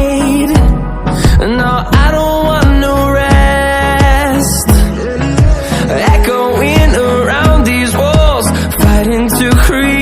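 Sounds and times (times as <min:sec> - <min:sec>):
pop music with steady beat: 0:00.0 - 0:10.0.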